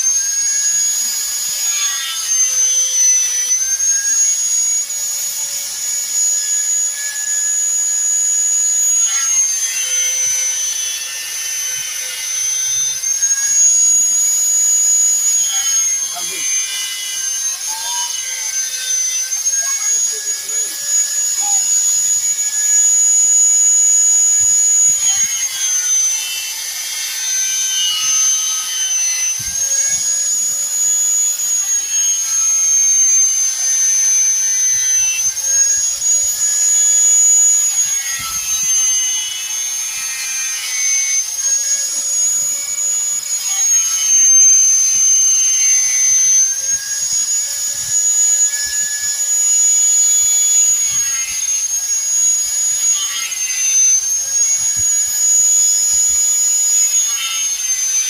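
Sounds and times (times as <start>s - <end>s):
high-speed power tool whining: 0.0s - 58.0s.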